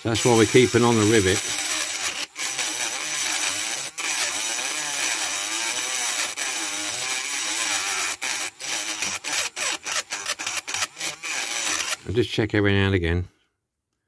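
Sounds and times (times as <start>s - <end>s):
rotary tool grinding metal: 0.0s - 12.1s.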